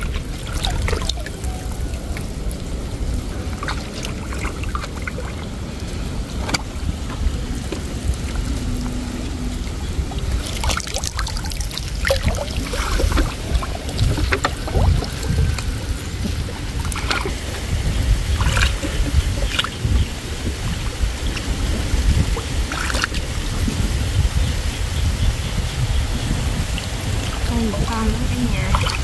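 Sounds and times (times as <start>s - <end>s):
low rumble: 0.0s - 29.0s
water sloshing and splashing: 0.0s - 29.0s.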